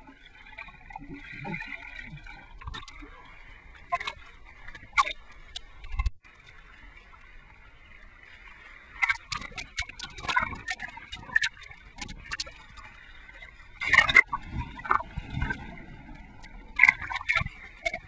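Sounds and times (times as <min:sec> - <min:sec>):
seawater sloshing and lapping: 0:00.0 - 0:18.0
small waves slapping camera: 0:00.0 - 0:18.0.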